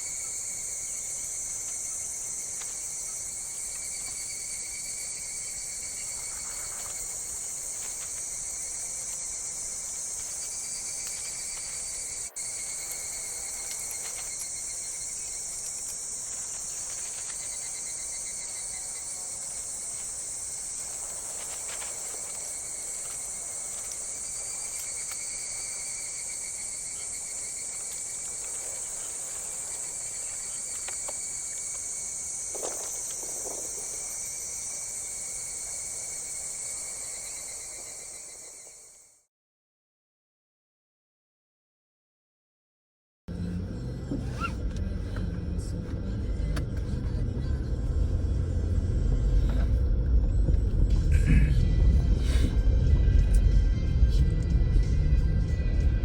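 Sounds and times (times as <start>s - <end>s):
insects trilling: 0.0s - 39.2s, 43.4s - 45.2s, 46.0s - 56.0s.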